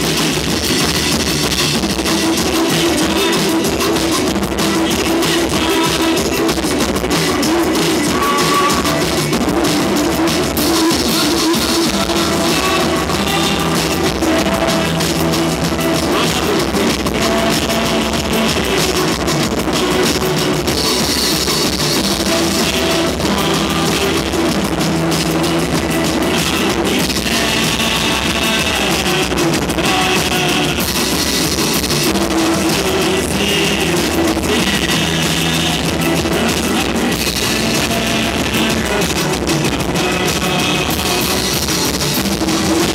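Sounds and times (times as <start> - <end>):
drum kit: 0.0 - 42.9
electric guitar: 0.0 - 42.9.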